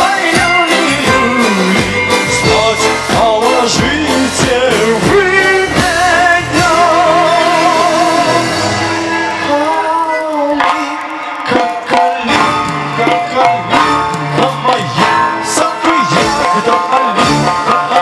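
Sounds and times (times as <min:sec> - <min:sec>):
drum kit: 0:00.0 - 0:18.0
live band through speakers: 0:00.0 - 0:18.0
man singing: 0:00.0 - 0:18.0.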